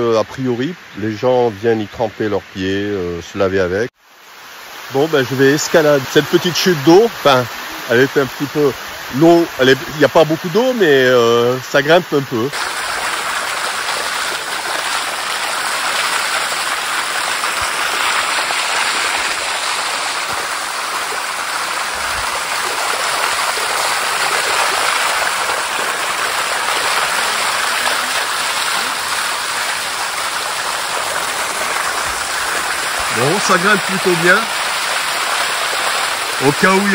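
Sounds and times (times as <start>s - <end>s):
water flowing over small waterfall: 4.0s - 36.9s.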